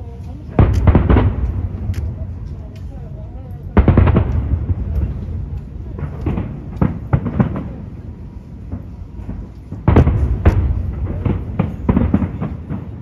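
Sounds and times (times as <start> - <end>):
firework shells booming: 0.5 - 3.0, 3.7 - 13.0.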